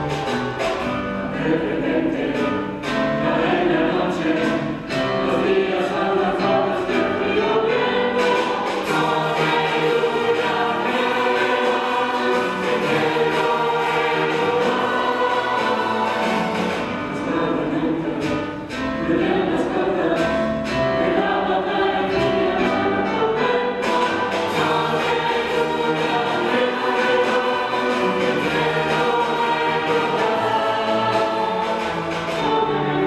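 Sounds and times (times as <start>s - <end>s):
string orchestra: 0.0s - 33.0s
mixed choir singing a carol: 1.2s - 33.0s.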